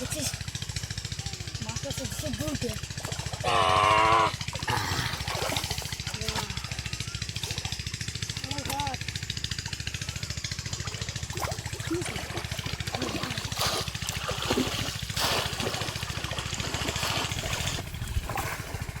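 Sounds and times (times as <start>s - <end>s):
small engine running: 0.0s - 19.0s
water splashing and sloshing: 0.0s - 19.0s.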